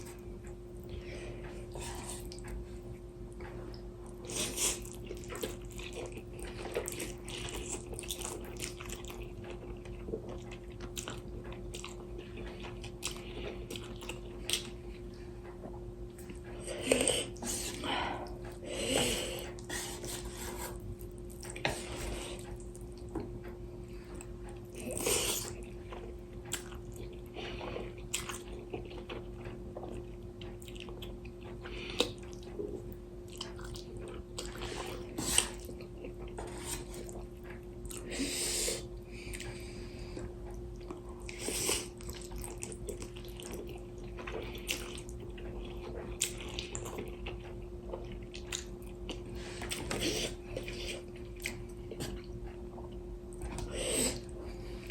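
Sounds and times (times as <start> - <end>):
faint steady hum: 0.0 - 54.9
chewing: 3.3 - 38.2, 38.8 - 54.9.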